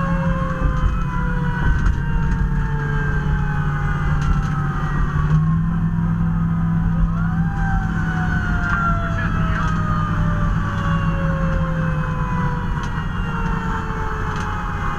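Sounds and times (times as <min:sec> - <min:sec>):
fire truck siren wailing: 0:00.0 - 0:14.9
heavy engine drone: 0:00.0 - 0:14.9.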